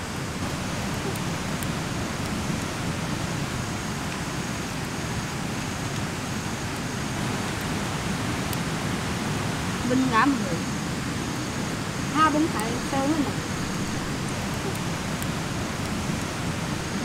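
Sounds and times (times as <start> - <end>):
stream water rushing: 0.0 - 17.0
wood fire crackling: 0.0 - 17.0.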